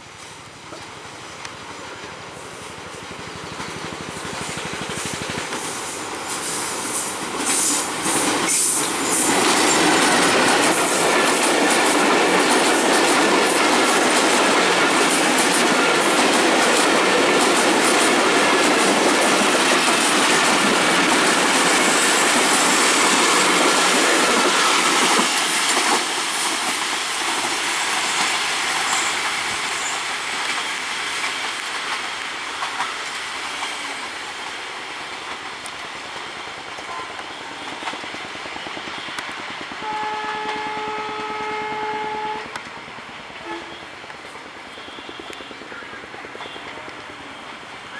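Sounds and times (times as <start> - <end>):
train wheels clattering: 0.0 - 43.8.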